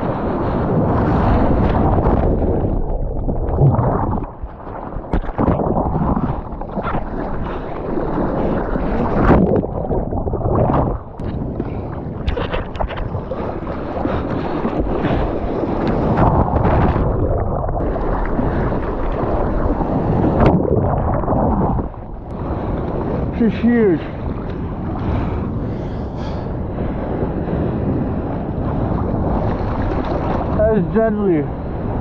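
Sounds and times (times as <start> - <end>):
seawater sloshing and splashing: 0.0 - 25.9, 28.4 - 31.0
wind buffeting microphone: 0.0 - 32.0.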